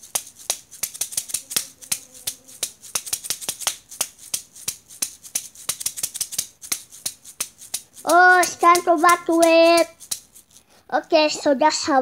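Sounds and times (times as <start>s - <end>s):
fingers tapping microphone: 0.0s - 10.2s.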